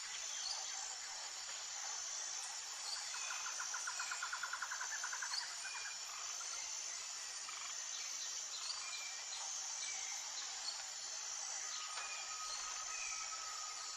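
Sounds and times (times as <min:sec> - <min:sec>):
high insect drone: 0:00.0 - 0:13.9.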